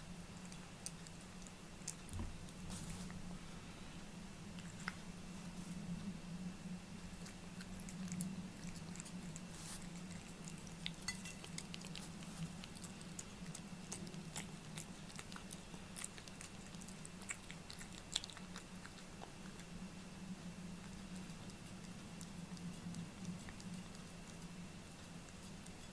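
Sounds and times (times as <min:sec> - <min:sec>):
cat licking and chewing food: 0:00.0 - 0:25.9
low hum: 0:00.0 - 0:25.9.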